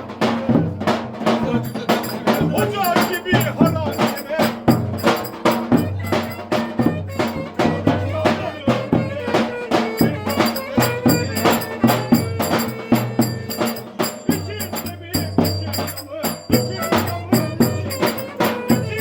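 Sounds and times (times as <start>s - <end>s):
steady drum beat: 0.0s - 19.0s.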